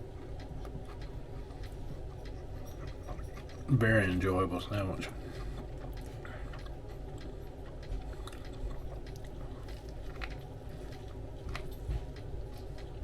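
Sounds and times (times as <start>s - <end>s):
person chewing food: 0.0s - 3.8s, 5.0s - 13.0s
low steady hum: 0.0s - 13.0s.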